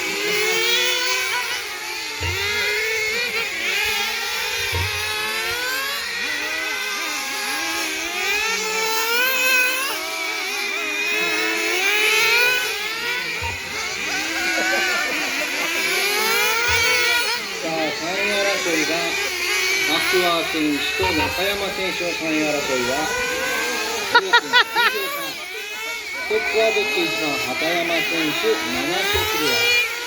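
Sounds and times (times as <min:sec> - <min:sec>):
radio-control car engines revving: 0:00.0 - 0:30.0.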